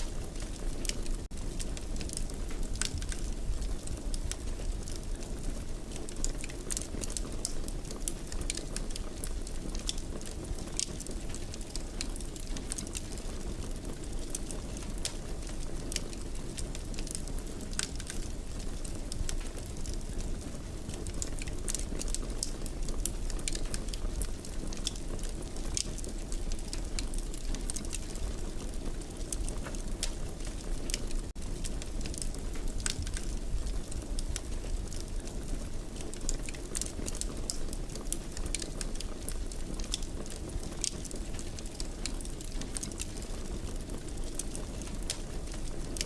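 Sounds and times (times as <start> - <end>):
low fire rumble: 0.0 - 46.0
wood fire crackling: 0.0 - 46.0.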